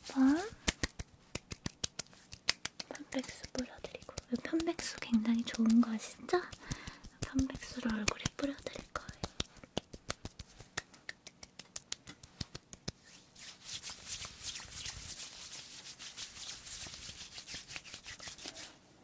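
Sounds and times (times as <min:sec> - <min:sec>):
hands patting together: 0:00.0 - 0:18.7
palms rubbing together: 0:00.0 - 0:18.8.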